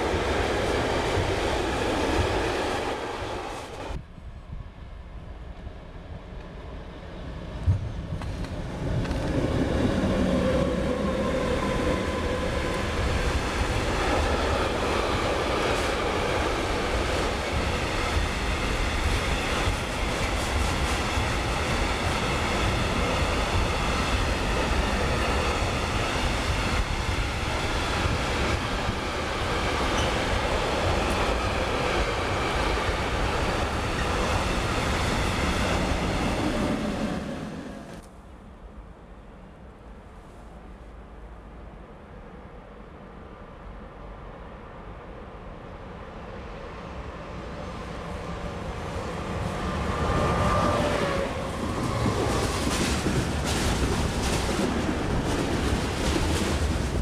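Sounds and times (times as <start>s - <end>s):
freight train wheels rumbling: 0.0s - 4.1s, 6.1s - 38.0s, 46.4s - 57.0s.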